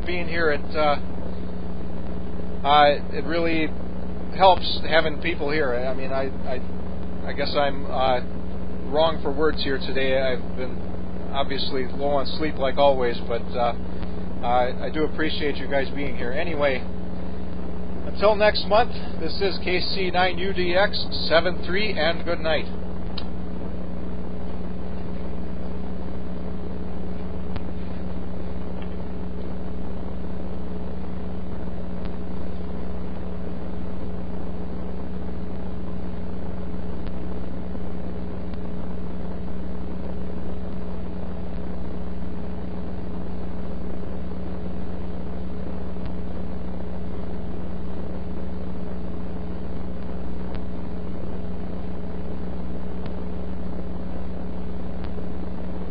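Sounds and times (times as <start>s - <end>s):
low constant hum: 0.0s - 55.9s
radio static: 0.0s - 55.9s.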